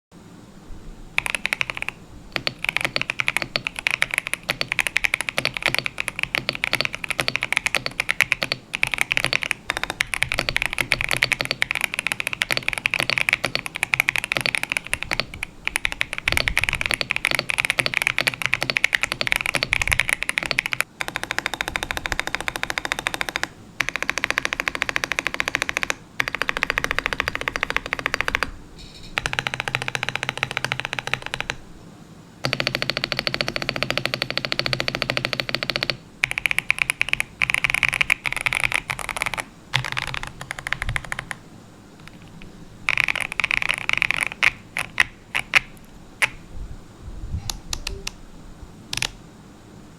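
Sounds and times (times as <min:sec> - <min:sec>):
mechanical keyboard typing: 0:01.2 - 0:31.6, 0:32.4 - 0:41.4, 0:42.0 - 0:46.4, 0:48.9 - 0:49.2.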